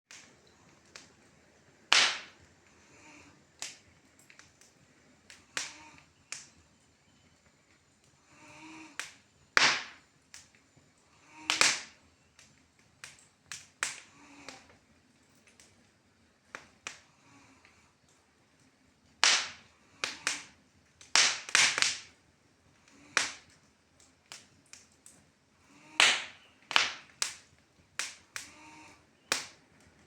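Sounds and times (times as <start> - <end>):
wood fire crackling: 0.1 - 30.0.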